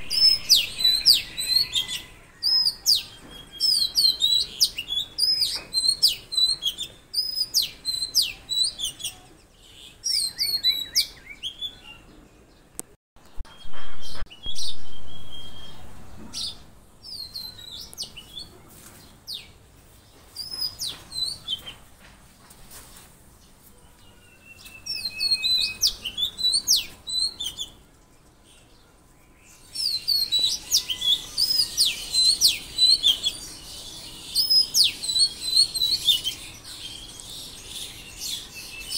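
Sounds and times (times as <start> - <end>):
songbirds chirping and whistling: 0.0 - 38.9.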